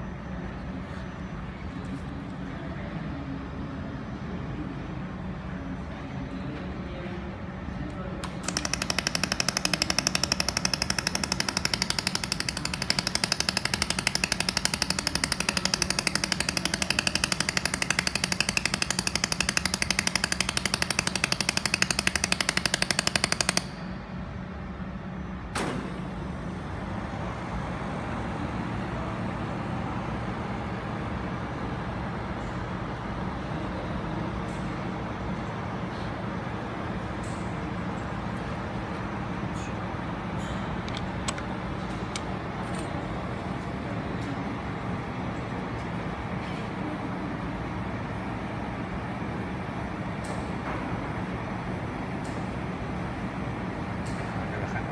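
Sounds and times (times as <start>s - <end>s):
low machine hum: 0.0s - 54.9s.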